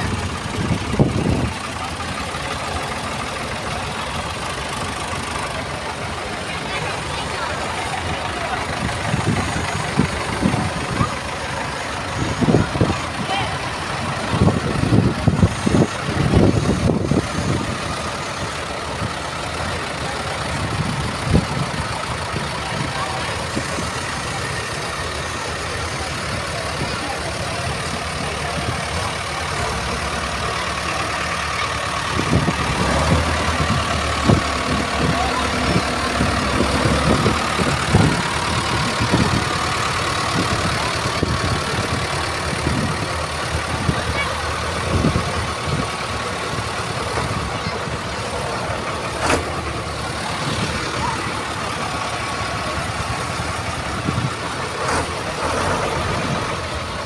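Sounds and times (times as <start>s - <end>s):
deep tractor engine rumble: 0.0s - 57.0s
diesel tractor engines running: 0.0s - 57.0s
faint crowd voices: 0.0s - 57.0s.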